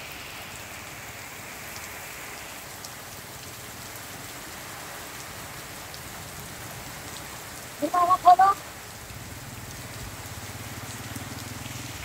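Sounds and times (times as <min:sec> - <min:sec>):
heavy rain on standing water: 0:00.0 - 0:12.0.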